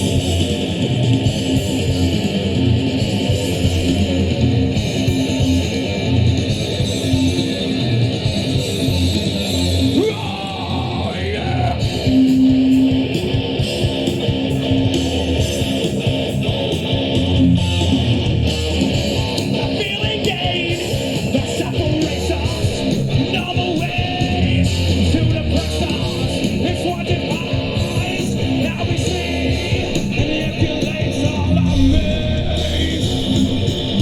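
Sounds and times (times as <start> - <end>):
rock band playing: 0.0 - 34.0
strummed electric guitar: 0.0 - 34.0.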